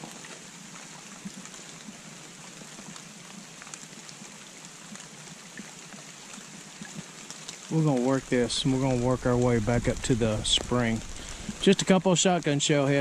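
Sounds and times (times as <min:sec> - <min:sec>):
rain on wet leaves: 0:00.0 - 0:13.0
shallow creek trickling: 0:00.0 - 0:13.0.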